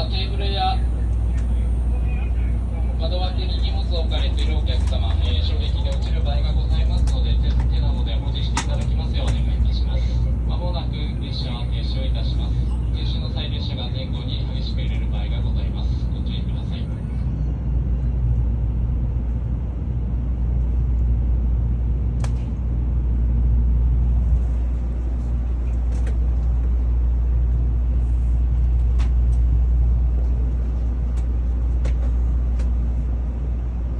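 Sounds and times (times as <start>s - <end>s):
train cabin rumble: 0.0s - 33.9s.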